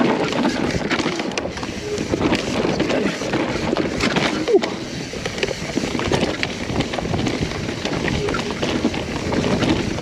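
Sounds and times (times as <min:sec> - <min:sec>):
bike rattling over bumps: 0:00.0 - 0:10.0
bike tyres rolling over dirt: 0:00.0 - 0:10.0.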